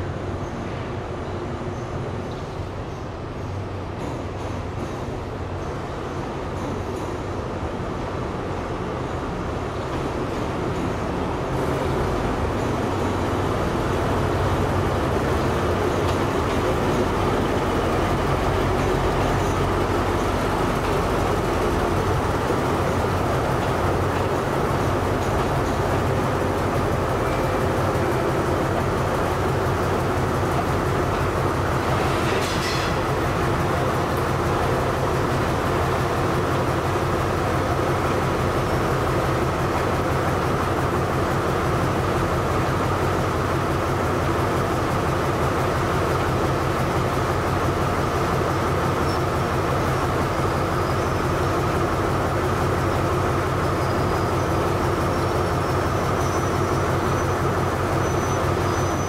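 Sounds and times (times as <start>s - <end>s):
train cars noise: 0.0s - 59.0s
train engine hum: 0.0s - 59.0s.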